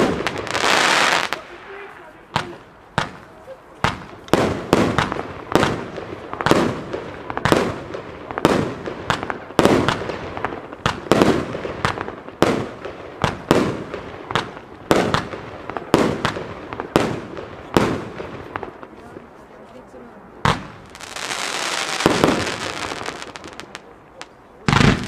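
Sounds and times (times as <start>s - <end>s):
fireworks bangs: 0.0s - 19.3s, 20.4s - 25.0s
fireworks crackles: 0.0s - 19.6s, 20.4s - 25.0s.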